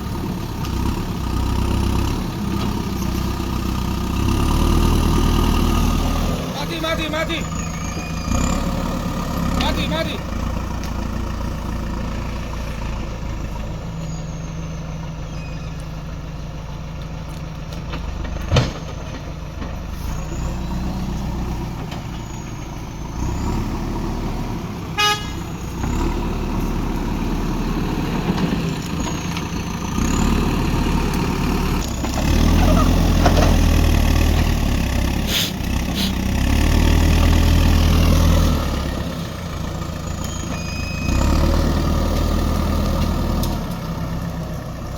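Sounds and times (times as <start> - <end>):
diesel engine revving under load: 0.0 - 44.9.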